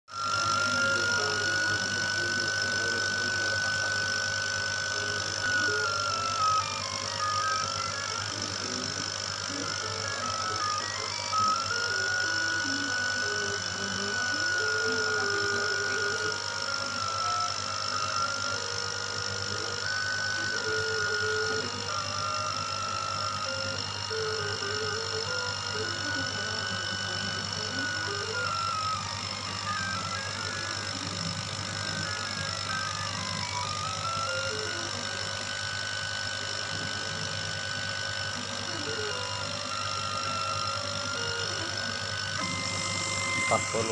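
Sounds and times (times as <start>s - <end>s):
steady low hum: 0.1s - 43.9s
stepper motors whining: 0.1s - 43.9s.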